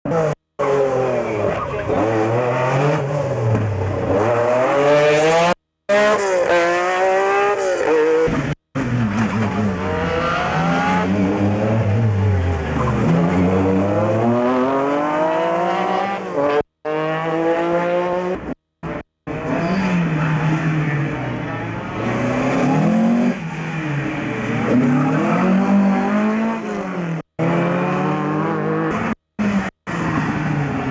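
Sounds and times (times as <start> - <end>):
rally car engines revving: 0.1 - 30.9.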